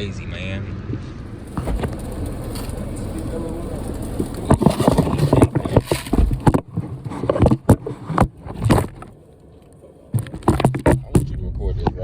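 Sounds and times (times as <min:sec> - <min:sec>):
scrapes and knocks: 0:01.2 - 0:11.4.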